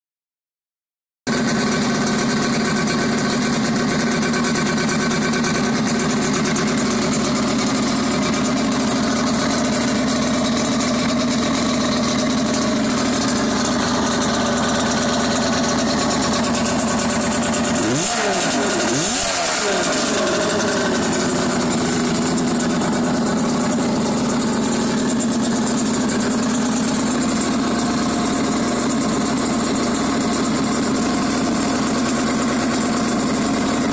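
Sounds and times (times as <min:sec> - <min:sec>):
motorcycle engine idling: 0:01.3 - 0:33.9.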